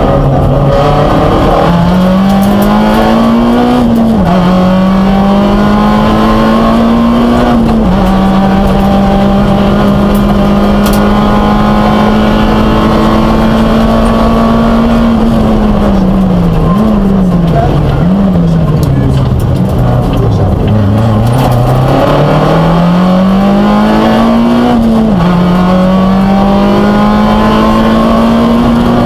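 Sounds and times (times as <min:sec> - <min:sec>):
rally car engine at full throttle: 0:00.0 - 0:29.0.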